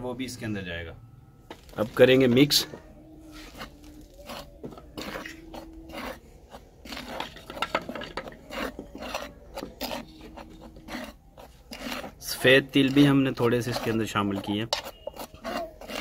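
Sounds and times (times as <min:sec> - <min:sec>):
metal spoon scraping clay bowl: 0:01.6 - 0:16.0.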